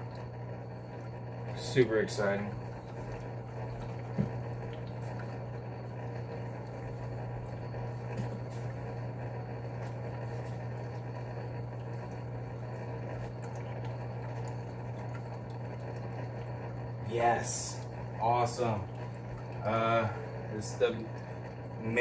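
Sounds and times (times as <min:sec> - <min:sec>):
aquarium filter hum and bubbling: 0:00.0 - 0:22.0.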